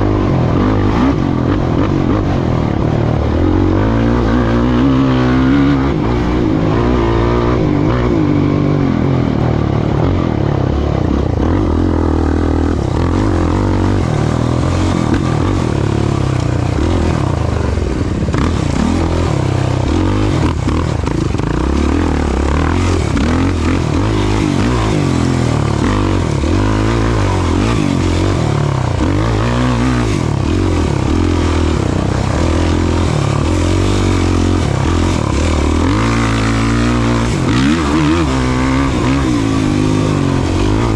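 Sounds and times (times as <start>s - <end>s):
racing vehicle engine revving: 0.0s - 40.9s.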